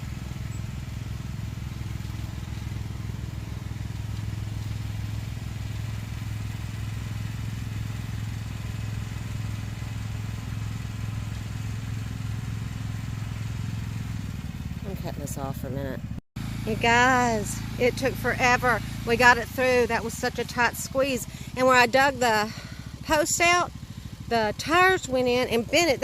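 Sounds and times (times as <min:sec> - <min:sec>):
vehicle engine running at low revs: 0:00.0 - 0:26.0.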